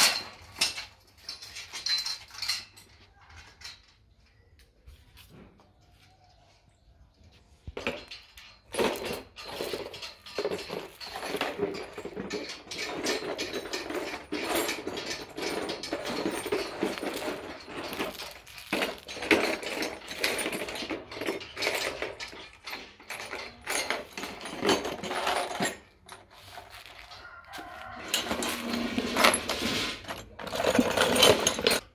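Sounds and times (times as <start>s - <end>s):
materials clattering and rustling: 0.0s - 5.6s, 7.6s - 31.9s.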